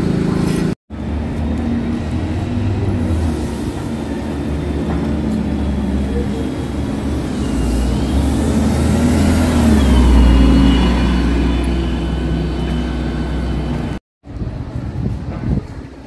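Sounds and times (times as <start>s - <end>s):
bus engine whining past: 0.0s - 14.0s
street noise: 0.0s - 16.0s.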